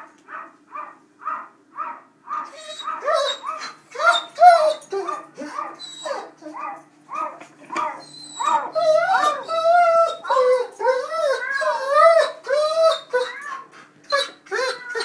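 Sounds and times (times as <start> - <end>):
dog whimpering and yipping: 2.5 - 15.0.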